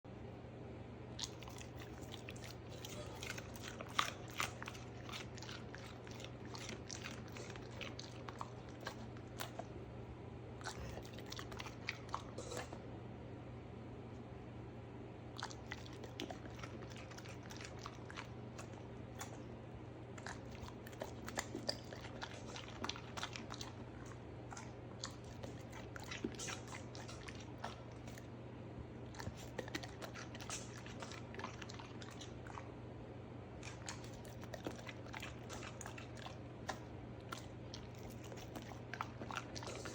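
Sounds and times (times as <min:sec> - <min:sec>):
steady low hum: 0:00.1 - 0:39.9
crunchy chewing of raw vegetables: 0:01.2 - 0:09.8, 0:10.6 - 0:12.8, 0:15.4 - 0:28.4, 0:29.0 - 0:32.8, 0:33.6 - 0:39.9.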